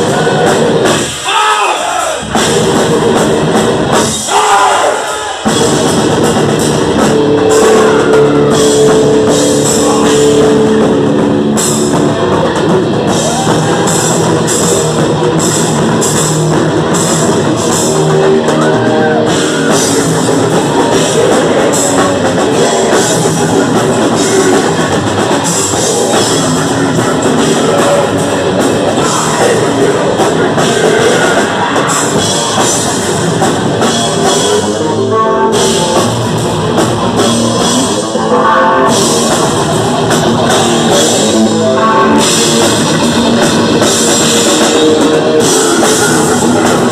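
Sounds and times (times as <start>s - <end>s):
distorted electric guitar: 0.0s - 1.4s, 2.2s - 4.4s, 5.1s - 46.9s
bass guitar: 0.0s - 4.5s, 5.3s - 46.9s
drum kit: 0.0s - 46.9s.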